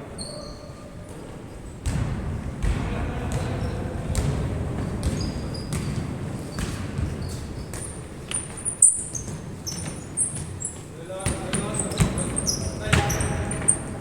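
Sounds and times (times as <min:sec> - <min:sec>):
sneaker squeaks on floor: 0:00.0 - 0:01.2, 0:03.4 - 0:14.0
low murmur of hall: 0:00.0 - 0:14.0
basketball bouncing: 0:01.8 - 0:14.0.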